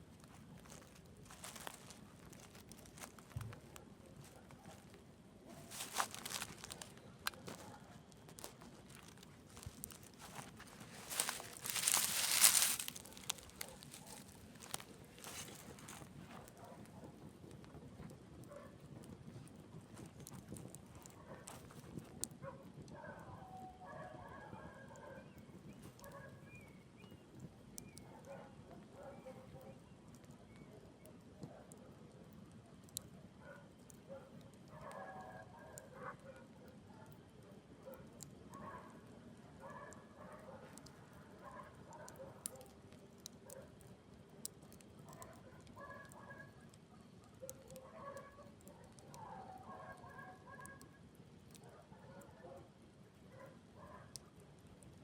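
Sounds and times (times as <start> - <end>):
campfire crackling and popping: 0.0 - 23.0, 24.9 - 29.0, 29.7 - 55.0.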